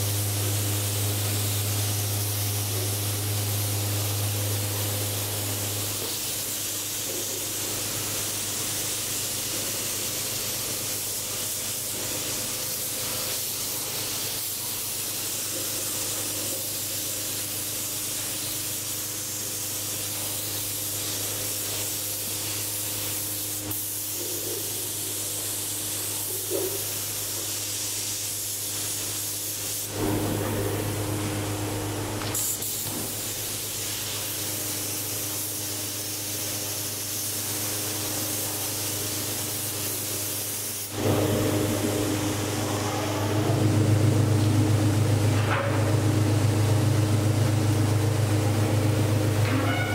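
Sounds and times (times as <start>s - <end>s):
spray gun hissing: 0.0s - 43.8s.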